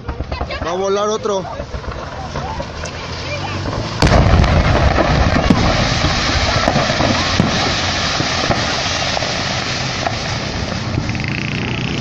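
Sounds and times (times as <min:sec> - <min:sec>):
explosion rumble: 0:00.0 - 0:12.0
fireworks crackling: 0:00.0 - 0:12.0
sharp bangs: 0:00.0 - 0:12.0.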